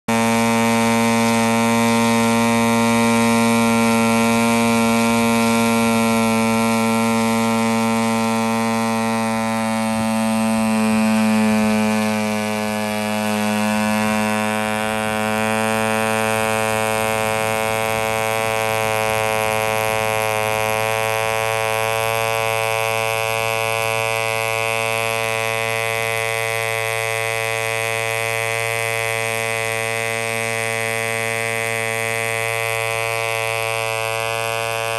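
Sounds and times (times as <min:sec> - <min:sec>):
model engine buzzing: 0:00.1 - 0:34.9.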